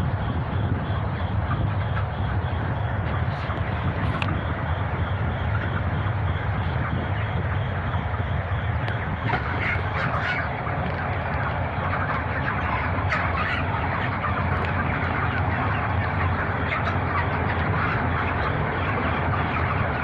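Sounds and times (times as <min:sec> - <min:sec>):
chickens calling and chirping: 0:00.0 - 0:20.0
ventilation fans humming: 0:00.0 - 0:20.0.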